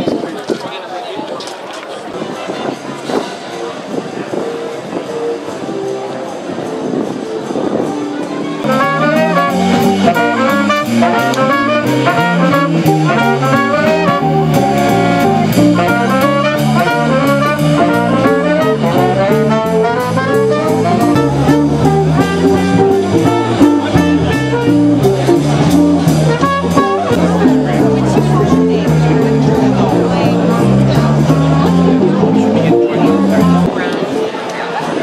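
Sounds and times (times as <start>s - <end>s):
upbeat jazz band: 2.3s - 34.3s.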